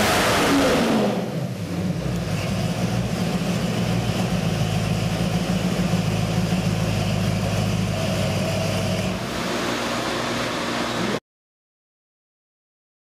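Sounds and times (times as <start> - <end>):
engine idling: 0.0 - 11.2.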